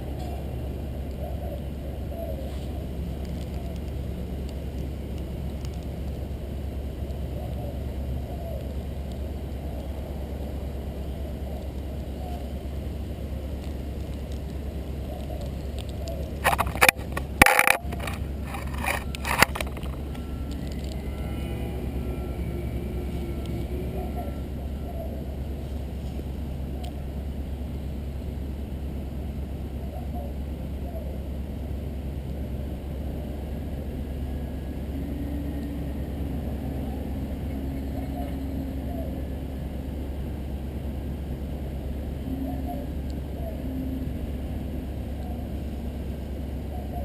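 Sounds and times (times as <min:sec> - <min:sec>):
crackling and rustling near microphone: 0:00.0 - 0:47.0
low outdoor rumble: 0:00.0 - 0:47.0.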